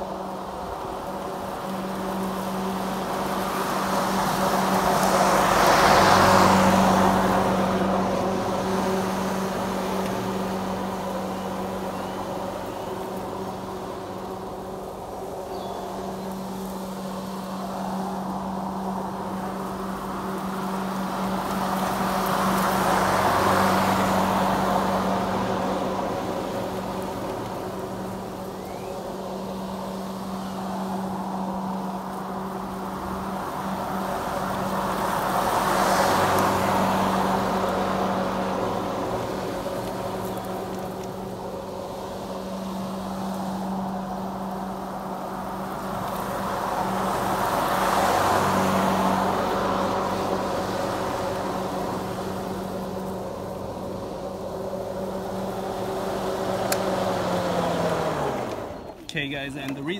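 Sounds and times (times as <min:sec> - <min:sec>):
electric lawn mower hum: 0:00.0 - 0:59.9.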